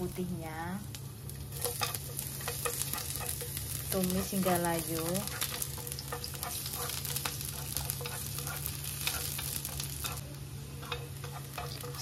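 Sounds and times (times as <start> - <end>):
shallots frying in oil: 0.0 - 12.0.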